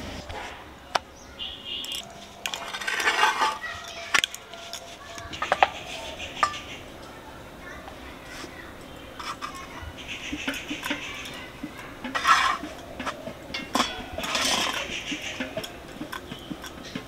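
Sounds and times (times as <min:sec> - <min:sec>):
cooking utensils clinking: 0:01.6 - 0:17.0.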